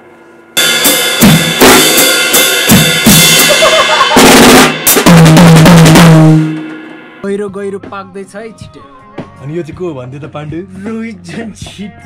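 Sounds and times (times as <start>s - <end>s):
drum kit played hard: 0.6s - 12.0s.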